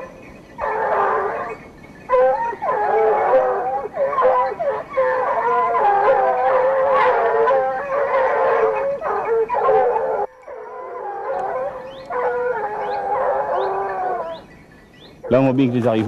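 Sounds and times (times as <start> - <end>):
hounds baying: 0.0 - 16.0.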